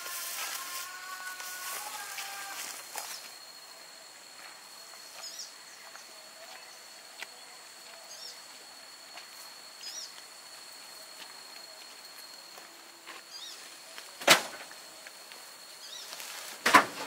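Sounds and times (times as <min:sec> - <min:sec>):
high-pitched insect whine: 0:00.0 - 0:17.0.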